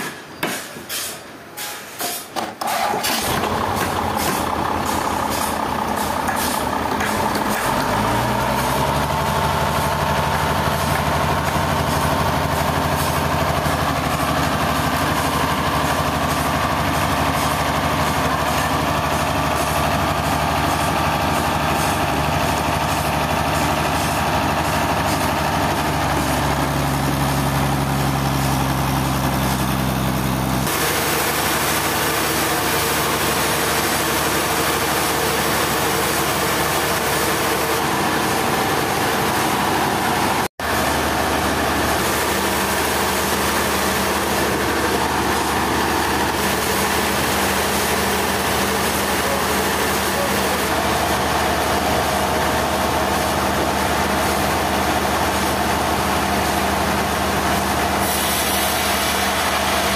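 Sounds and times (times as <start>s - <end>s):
heavy machinery engine running: 2.6s - 59.9s.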